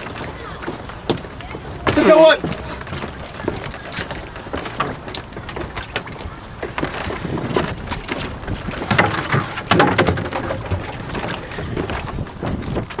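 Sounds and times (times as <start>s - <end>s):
rowing boat knocking and clattering: 0.0s - 13.0s
wind noise on microphone: 0.0s - 13.0s.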